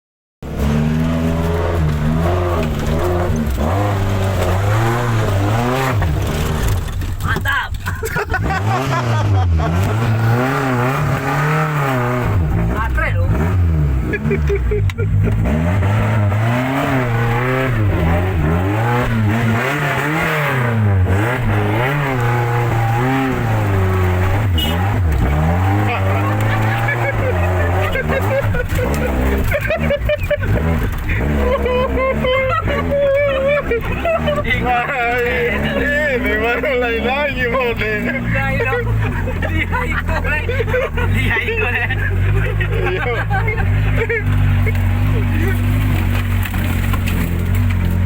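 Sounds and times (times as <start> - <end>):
vehicle engine revving under load: 0.4 - 7.3, 8.0 - 48.0.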